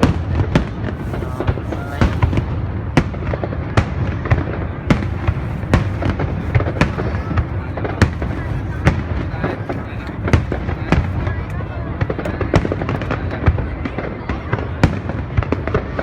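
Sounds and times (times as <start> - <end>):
firework bangs: 0.0 - 16.0
low rumble of fireworks: 0.0 - 16.0.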